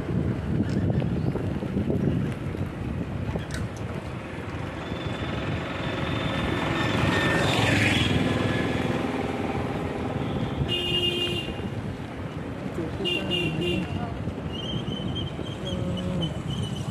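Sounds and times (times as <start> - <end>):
auto-rickshaw passing: 0.0 - 16.9
vehicle and wind noise: 0.0 - 16.9.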